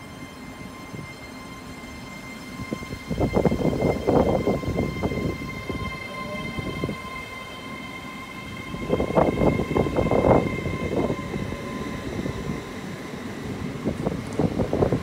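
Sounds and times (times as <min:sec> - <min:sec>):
train high whine: 0:00.0 - 0:15.0.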